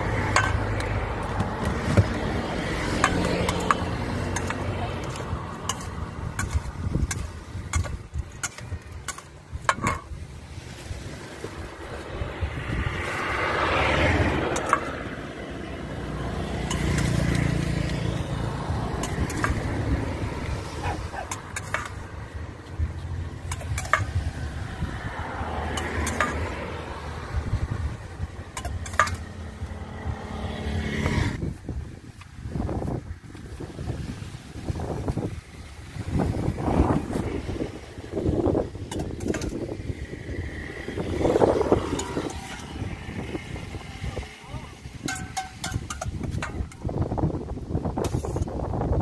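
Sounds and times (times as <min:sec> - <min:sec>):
vehicles passing: 0:00.0 - 0:49.0.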